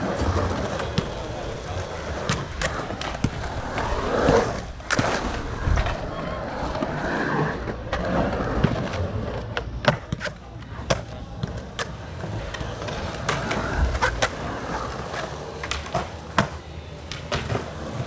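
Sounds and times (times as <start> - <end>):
skateboard clacks on concrete: 0.0 - 6.0, 7.8 - 18.0
skateboard wheels rolling on concrete: 0.0 - 18.0.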